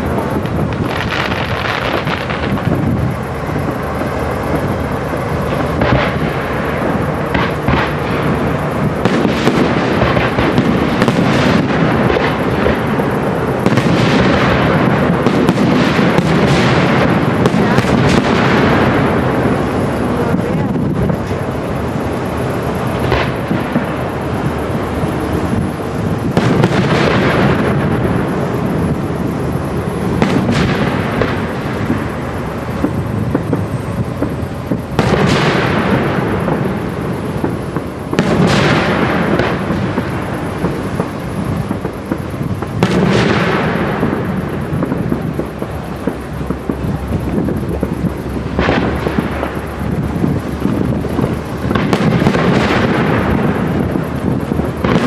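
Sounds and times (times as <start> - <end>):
echoing rumble: 0.0 - 55.0
firework bangs: 0.0 - 55.0.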